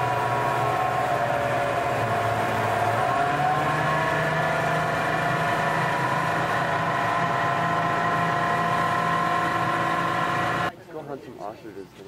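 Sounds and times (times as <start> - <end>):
bus engine humming with whine: 0.0 - 10.7.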